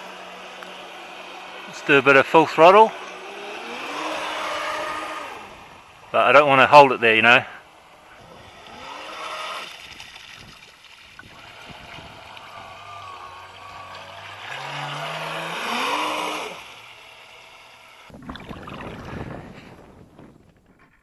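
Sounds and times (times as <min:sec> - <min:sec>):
electric boat motor whining: 0:00.0 - 0:18.1.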